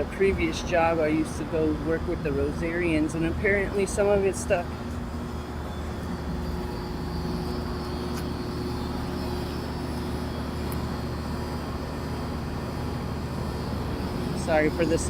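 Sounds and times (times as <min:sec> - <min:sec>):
air-conditioning unit running: 0:00.0 - 0:15.0
low drone: 0:00.0 - 0:15.0
road traffic hum: 0:00.0 - 0:15.0.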